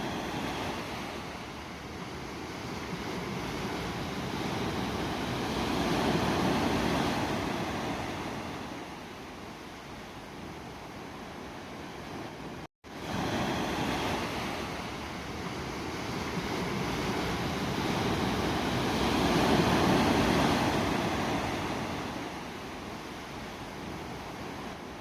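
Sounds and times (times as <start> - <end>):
wave washing in: 0.0 - 25.0.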